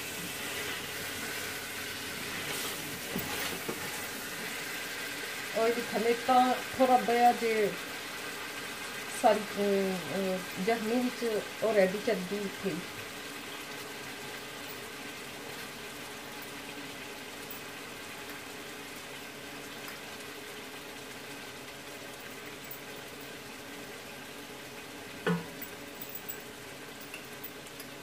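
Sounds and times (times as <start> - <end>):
stew bubbling and sizzling in pot: 0.0 - 28.0.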